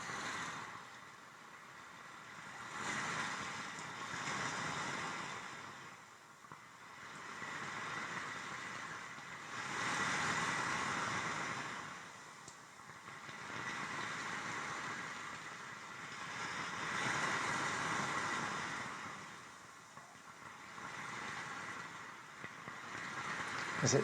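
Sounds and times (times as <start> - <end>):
waves washing over pebbles: 1.7 - 24.0.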